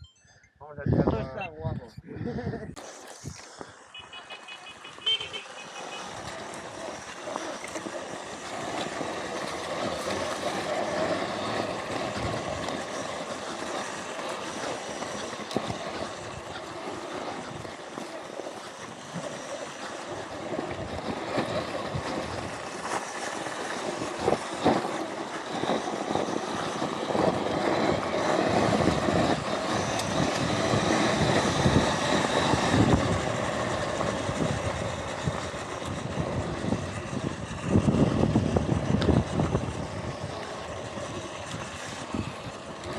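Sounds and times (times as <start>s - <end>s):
electric motor whine: 2.8s - 42.9s
tyres and chain rattling on dirt: 5.5s - 42.9s.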